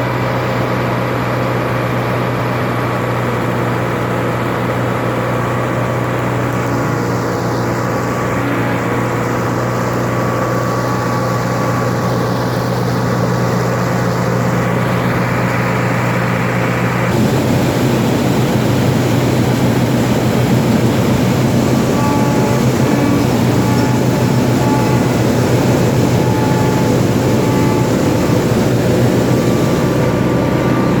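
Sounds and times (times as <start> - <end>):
combine engine and threshing machinery: 0.0 - 31.0.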